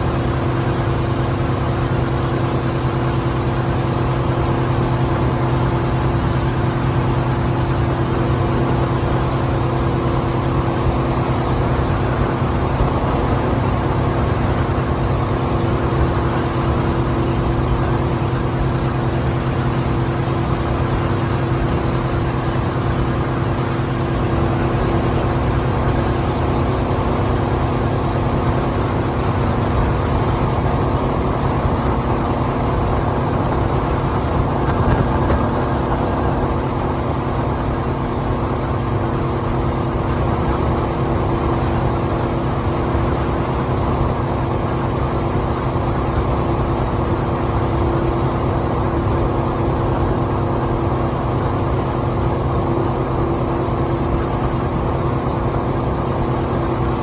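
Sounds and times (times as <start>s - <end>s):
speedboat engine droning: 0.0s - 57.0s.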